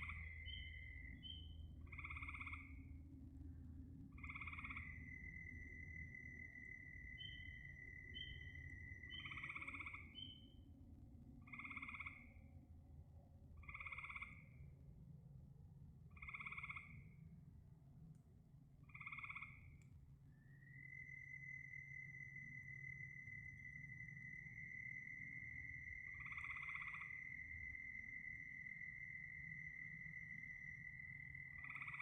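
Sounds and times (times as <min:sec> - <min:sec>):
frogs croaking: 0:00.0 - 0:03.0, 0:04.1 - 0:10.6, 0:11.4 - 0:12.5, 0:13.6 - 0:14.7, 0:16.1 - 0:17.2, 0:18.8 - 0:32.0.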